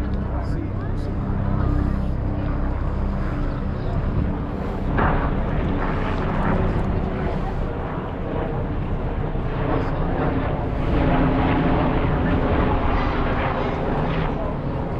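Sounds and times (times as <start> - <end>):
low rumble: 0.0 - 14.9.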